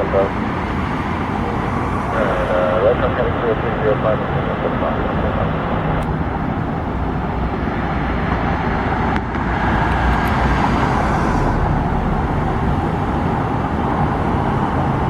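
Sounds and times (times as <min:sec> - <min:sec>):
jet engines roaring: 0:00.0 - 0:15.0
traffic noise: 0:00.0 - 0:15.0.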